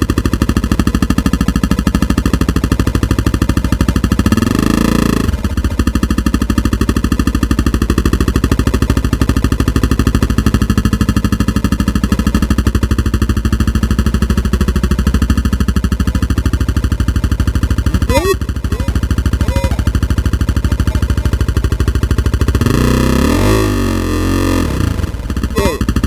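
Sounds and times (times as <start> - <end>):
fast mechanical rattle: 0.0 - 26.0.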